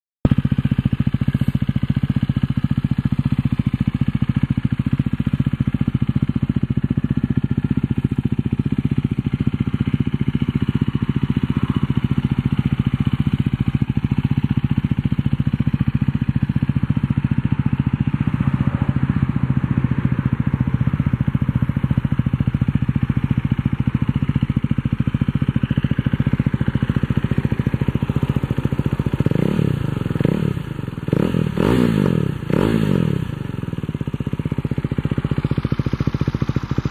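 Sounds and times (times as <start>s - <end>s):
motorcycle engine idling: 0.2s - 36.9s.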